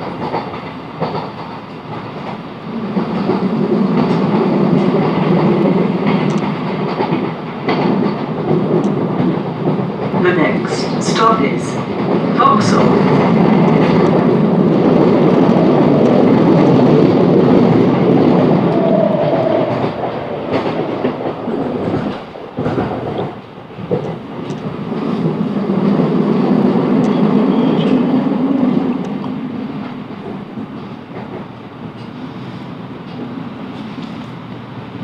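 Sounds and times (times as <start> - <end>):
train wheel and rail rumble: 0.0 - 35.0.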